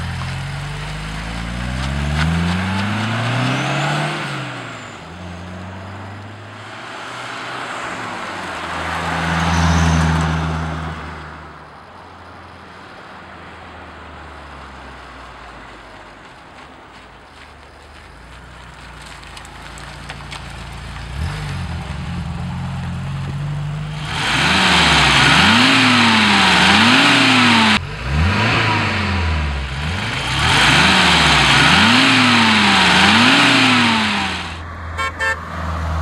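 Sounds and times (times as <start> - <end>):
car engine revving: 0.0 - 11.8, 18.4 - 36.0.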